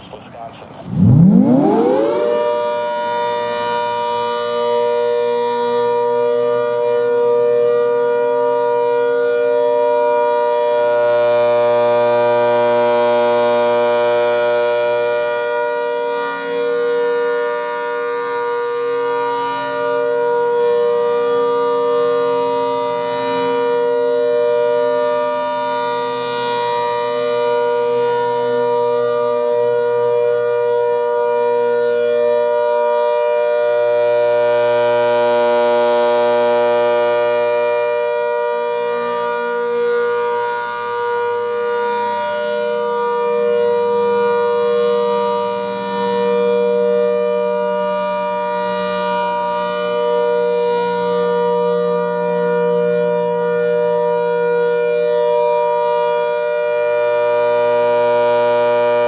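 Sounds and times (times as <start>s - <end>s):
warning siren: 0.0s - 59.0s.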